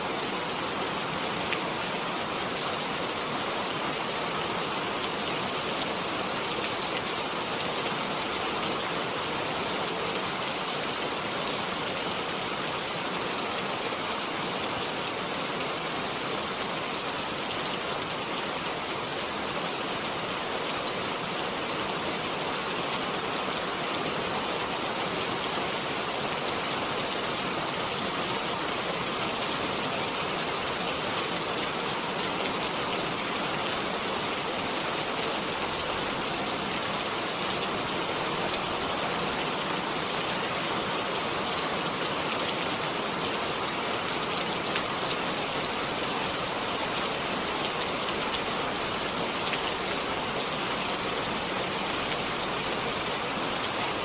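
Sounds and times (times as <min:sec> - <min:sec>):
rain drops pattering: 0:00.1 - 0:54.0.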